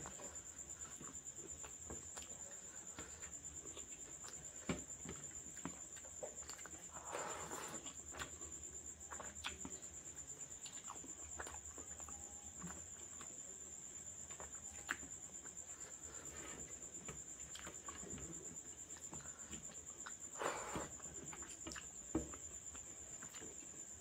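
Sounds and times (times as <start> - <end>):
man chewing food: 0.0 - 24.0.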